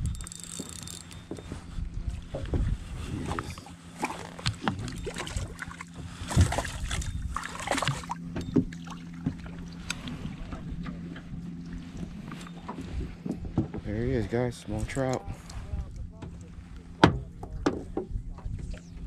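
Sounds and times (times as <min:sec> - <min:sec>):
knocks and rustles handling fish: 0:00.0 - 0:14.1, 0:17.0 - 0:18.8
low hum: 0:00.0 - 0:19.0.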